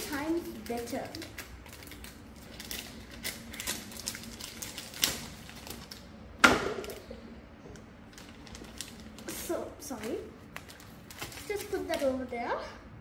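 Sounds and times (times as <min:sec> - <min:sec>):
cellophane crinkling: 0:00.0 - 0:06.2, 0:07.8 - 0:12.4.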